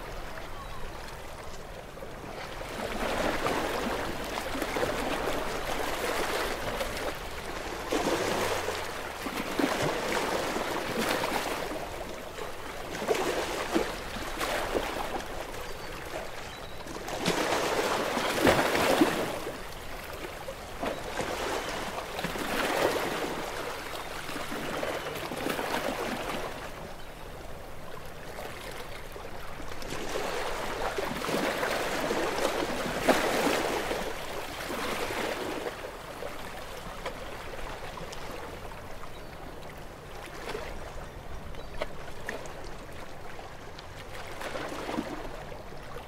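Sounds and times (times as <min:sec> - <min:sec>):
small waves lapping: 0:00.0 - 0:46.0.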